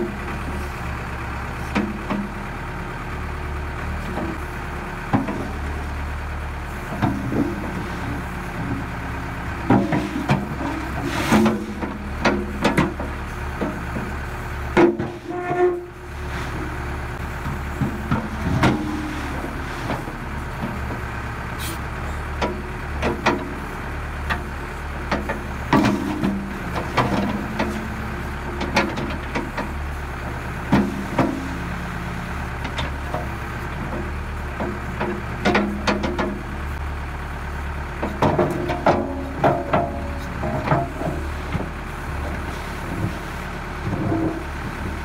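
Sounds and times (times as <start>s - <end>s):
backhoe diesel engine running: 0.0s - 45.0s
hydraulics working: 0.0s - 45.0s.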